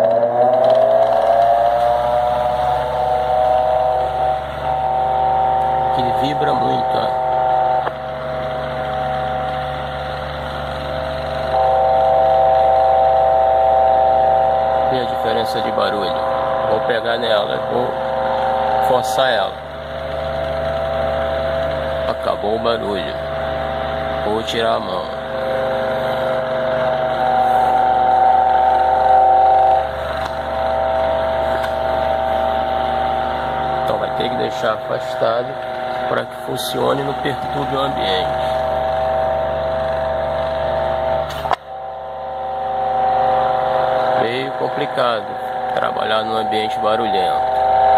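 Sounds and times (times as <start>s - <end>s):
electric fan vibrating hum: 0.0s - 47.9s.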